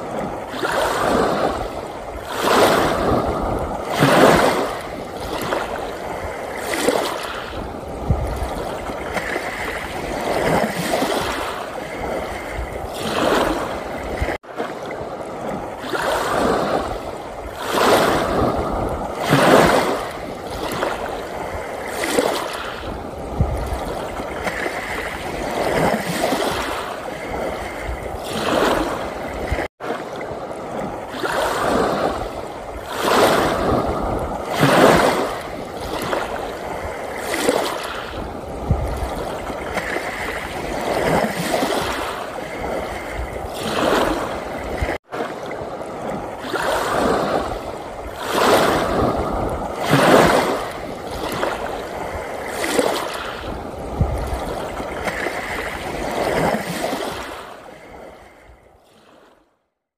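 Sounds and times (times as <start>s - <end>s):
small waves on sandy shore: 0.0s - 59.8s.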